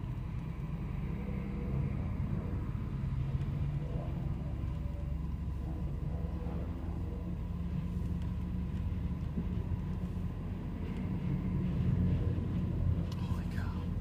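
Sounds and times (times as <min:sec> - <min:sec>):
vehicle cabin rumble: 0:00.0 - 0:14.0.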